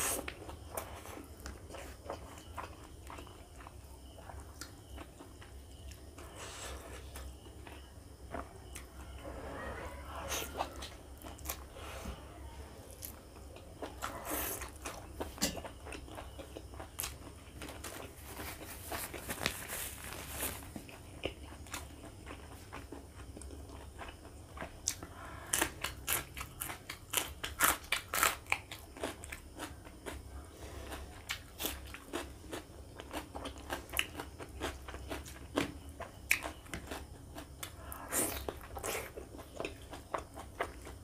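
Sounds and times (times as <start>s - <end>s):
chewing and biting food: 0.0s - 6.1s, 13.0s - 41.0s.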